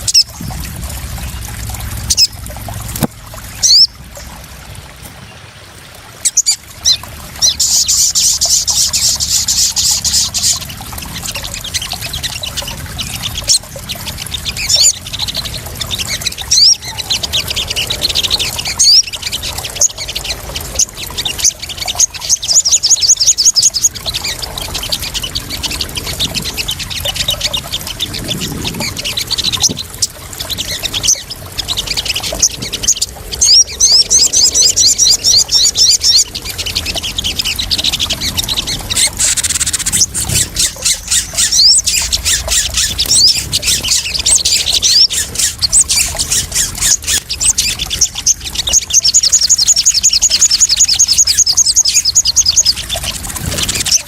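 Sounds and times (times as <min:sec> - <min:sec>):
birds chirping trills: 0:00.0 - 0:54.0
water splashing: 0:00.0 - 0:54.0.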